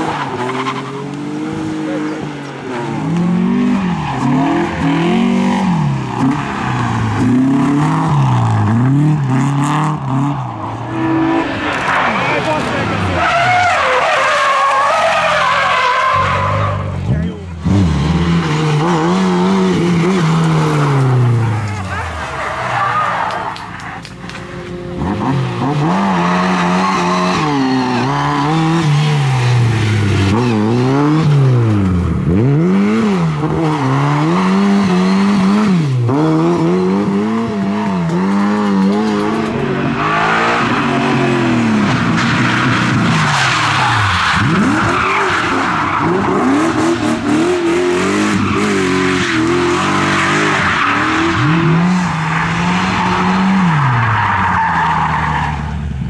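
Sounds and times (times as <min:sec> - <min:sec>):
rally car engines revving: 0:00.0 - 0:56.0
tyres skidding on asphalt: 0:00.0 - 0:56.0.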